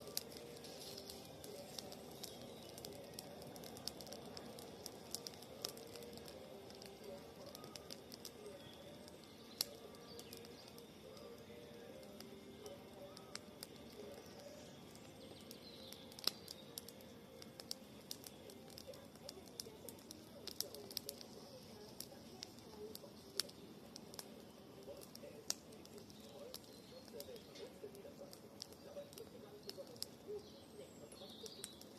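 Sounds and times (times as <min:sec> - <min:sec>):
campfire crackling and popping: 0:00.0 - 0:31.9
faint birdsong: 0:00.0 - 0:31.9.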